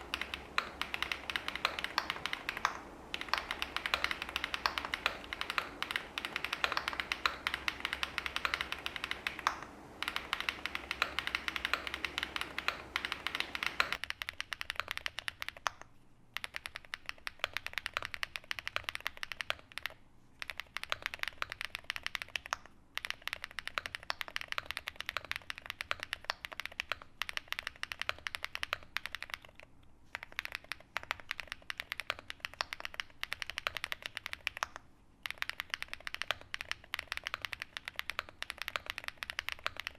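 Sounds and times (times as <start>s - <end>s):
mechanical keyboard typing: 0.0s - 15.8s, 16.4s - 39.9s.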